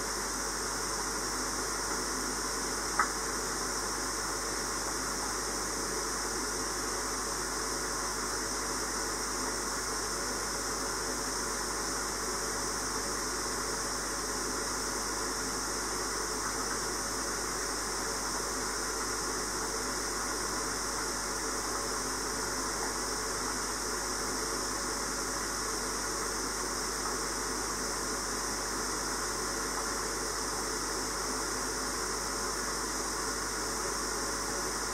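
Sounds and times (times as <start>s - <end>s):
steady hiss: 0.0s - 34.9s.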